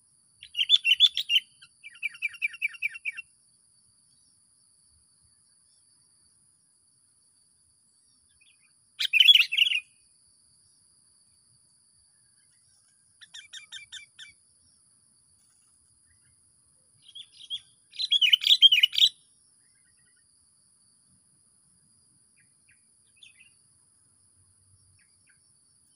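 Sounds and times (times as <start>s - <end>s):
faint high-pitched whine: 0.0s - 25.9s
songbird singing: 0.0s - 25.9s.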